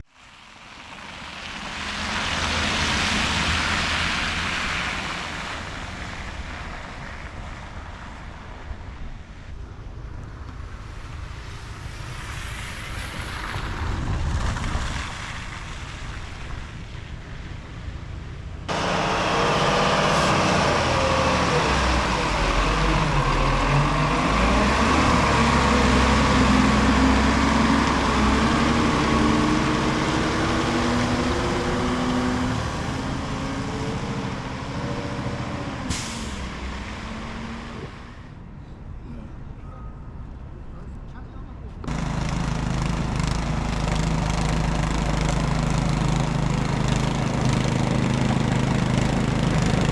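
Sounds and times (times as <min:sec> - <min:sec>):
engine running close by: 0:00.0 - 0:38.4, 0:41.8 - 0:49.9
vehicles passing on road: 0:00.0 - 0:49.9.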